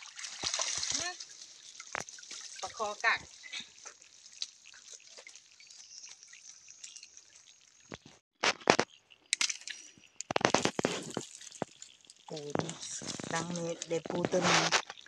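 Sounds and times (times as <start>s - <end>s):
water dripping and trickling: 0.0s - 15.0s.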